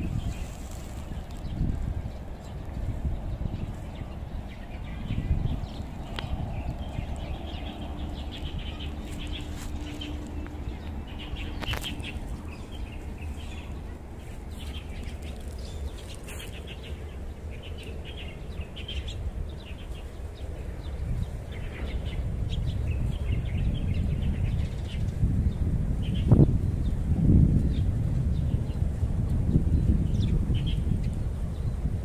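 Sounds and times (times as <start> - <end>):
small birds chirping: 0.0 - 32.0
steady low rumble: 0.0 - 32.0.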